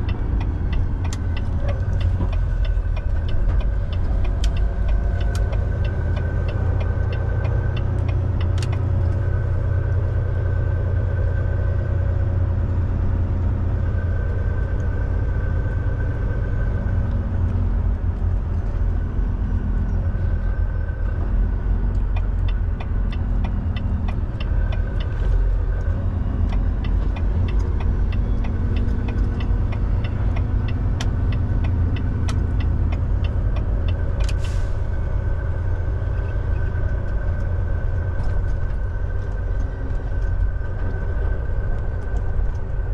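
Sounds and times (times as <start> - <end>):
truck engine and road drone: 0.0 - 42.9.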